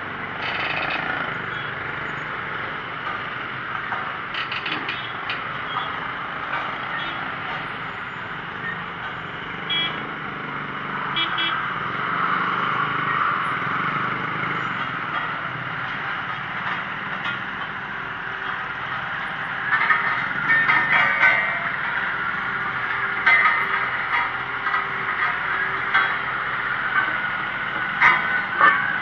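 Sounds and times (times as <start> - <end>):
motorcycles passing: 0.0 - 29.0
road roller engine running: 0.0 - 29.0.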